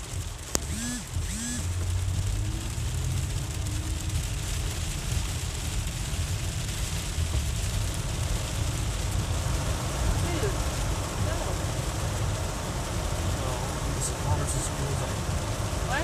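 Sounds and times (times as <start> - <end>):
low engine rumble: 0.0 - 16.0
tyres on slushy road: 0.0 - 16.0.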